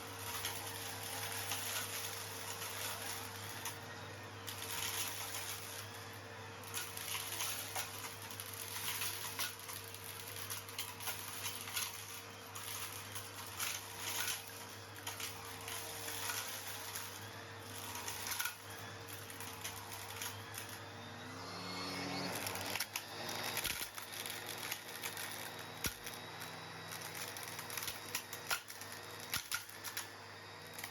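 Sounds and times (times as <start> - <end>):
vacuum cleaner motor hum: 0.0 - 30.9.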